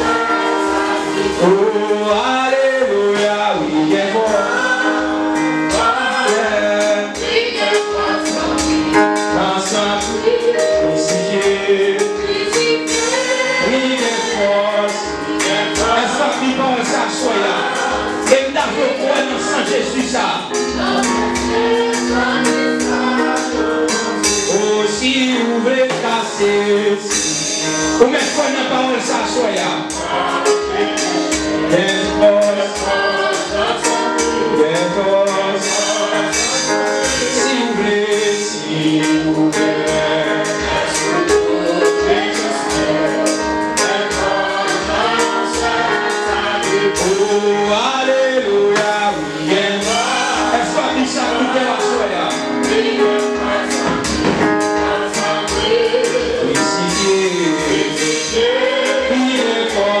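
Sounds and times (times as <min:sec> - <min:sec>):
percussion beat: 0:00.0 - 1:00.0
man singing a hymn: 0:01.1 - 0:21.4, 0:23.1 - 1:00.0.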